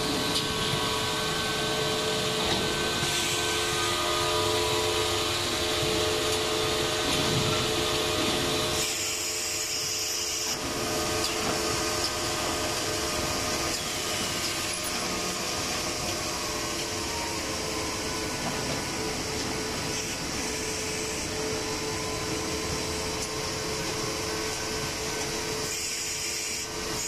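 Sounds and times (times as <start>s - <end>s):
constant whining tones: 0.0s - 27.0s
motors and conveyors humming: 0.0s - 27.0s.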